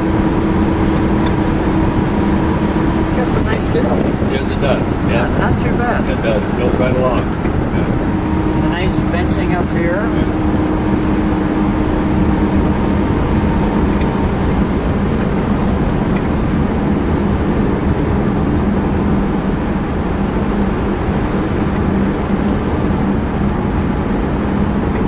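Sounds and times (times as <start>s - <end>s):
car engine humming: 0.0s - 25.0s
rushing wind: 0.0s - 25.0s.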